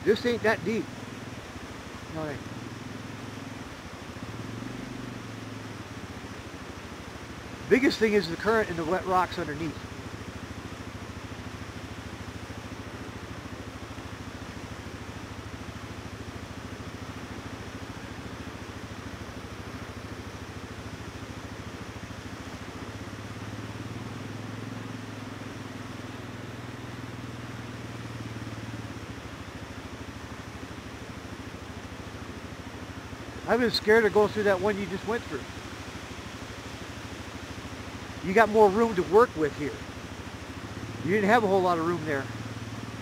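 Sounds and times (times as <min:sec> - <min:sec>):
atv engine idling: 0:00.0 - 0:43.0.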